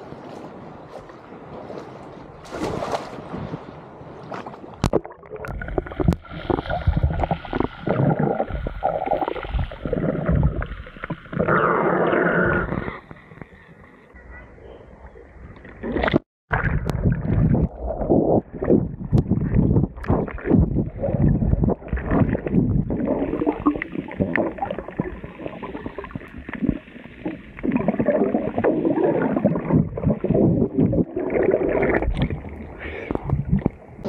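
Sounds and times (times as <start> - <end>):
muffled underwater water sloshing: 0.0 - 34.0.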